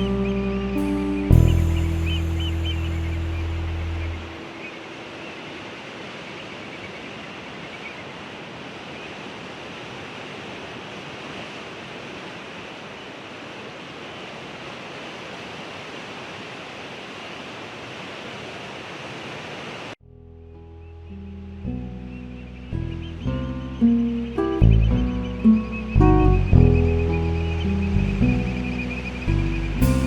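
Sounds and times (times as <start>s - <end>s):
ocean waves washing: 0.0s - 20.0s, 21.1s - 30.0s.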